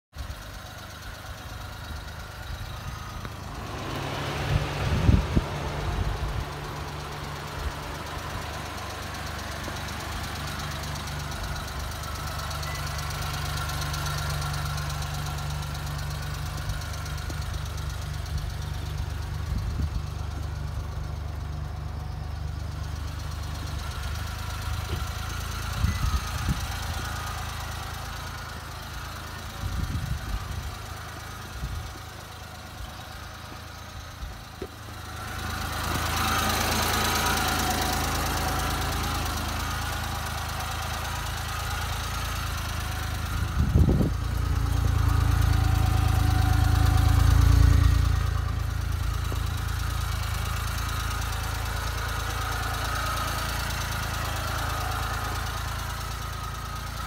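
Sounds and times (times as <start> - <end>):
small truck engine idling: 0.1 - 57.0.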